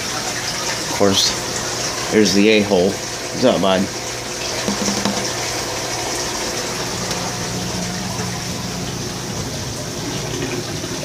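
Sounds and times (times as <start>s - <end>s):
aquarium pump hum: 0.0s - 11.0s
running water: 0.0s - 11.0s.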